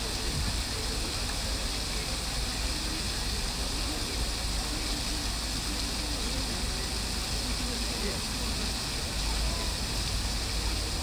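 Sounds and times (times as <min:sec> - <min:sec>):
faint voices: 0:00.0 - 0:11.0
fountain water splashing: 0:00.0 - 0:11.0.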